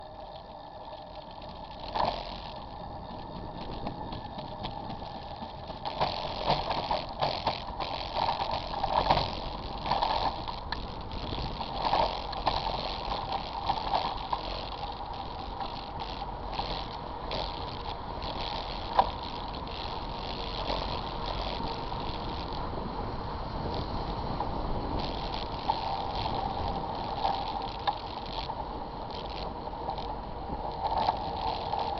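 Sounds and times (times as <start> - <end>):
bicycle tyres hissing on wet pavement: 0.0 - 31.9
bike rattling over bumps: 0.0 - 31.9.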